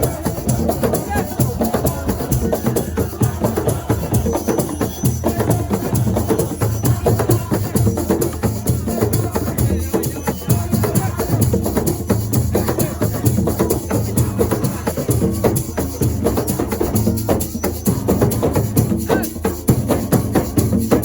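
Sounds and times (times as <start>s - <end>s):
fast drum percussion music: 0.0s - 21.0s.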